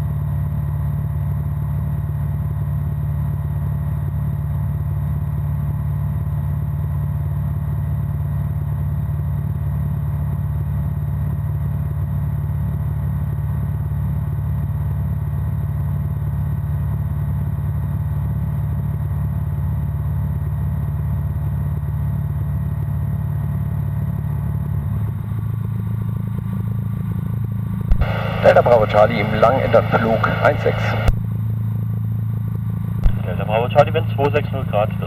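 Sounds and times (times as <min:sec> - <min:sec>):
aircraft engine and propeller drone: 0:00.0 - 0:35.0.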